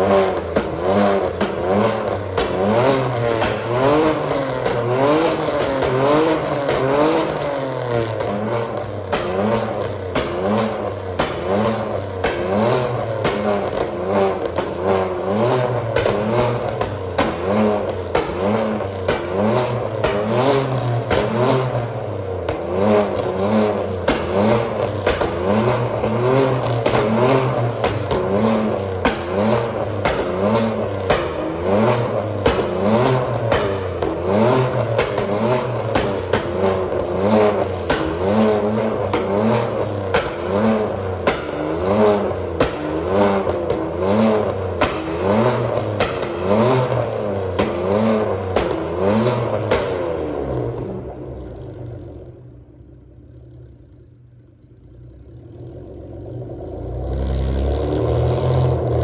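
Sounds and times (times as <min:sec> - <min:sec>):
car exhaust revving: 0:00.0 - 0:59.0
exhaust pops and crackles: 0:00.0 - 0:59.0.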